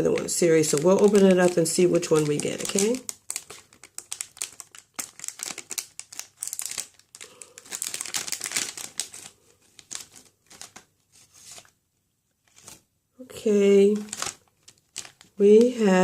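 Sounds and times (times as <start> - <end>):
plastic wrapper crinkling: 0.0 - 11.8, 12.4 - 12.9, 13.8 - 16.0.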